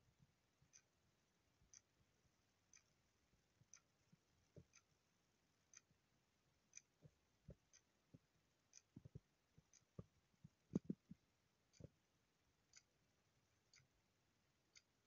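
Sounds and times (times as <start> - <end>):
wall clock ticking: 0.0 - 15.0.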